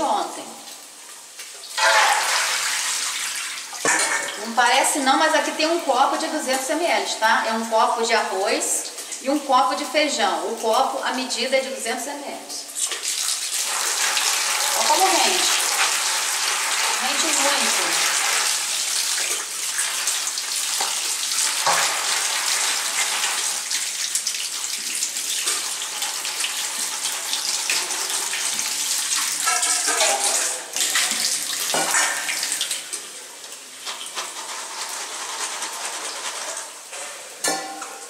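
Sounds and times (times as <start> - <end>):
tap water running into metal bowl: 1.4 - 6.8, 12.8 - 38.0.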